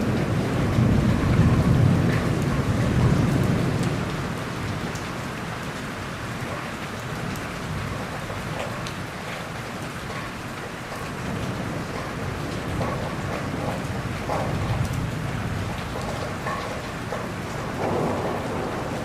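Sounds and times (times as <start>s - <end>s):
thunder rolling: 0.0s - 9.4s, 10.9s - 19.0s
raindrops ticking: 0.0s - 19.0s
steady rain falling: 0.0s - 19.0s.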